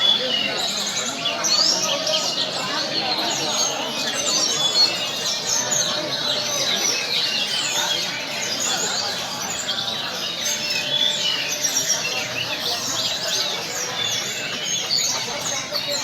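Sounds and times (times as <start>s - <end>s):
songbirds chirping and whistling: 0.0s - 16.0s.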